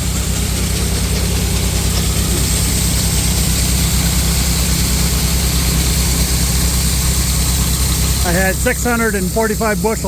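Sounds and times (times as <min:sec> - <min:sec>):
heavy engine idling: 0:00.0 - 0:10.0.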